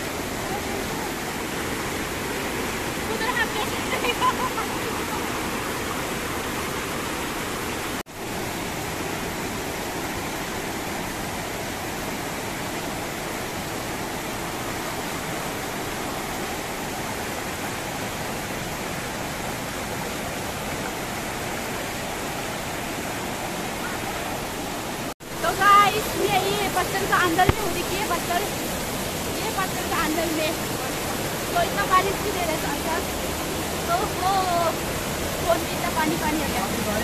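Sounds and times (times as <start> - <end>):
mountain stream rushing over boulders: 0.0 - 37.0.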